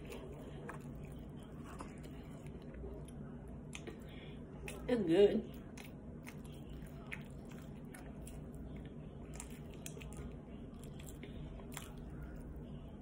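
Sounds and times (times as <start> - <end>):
person chewing food: 0.0 - 4.9, 5.5 - 13.0.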